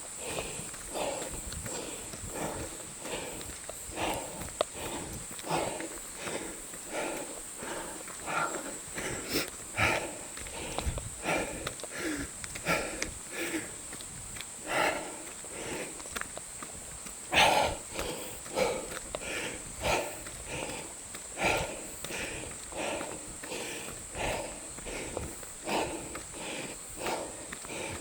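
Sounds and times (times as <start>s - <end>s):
footsteps: 0.0s - 28.0s
heavy breathing: 0.0s - 28.0s.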